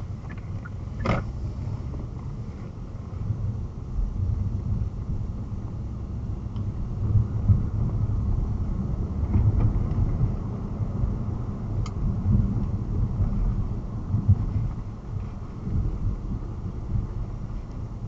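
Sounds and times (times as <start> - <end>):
vehicle rumble with road noise: 0.0 - 18.0
wind on microphone: 0.0 - 18.0.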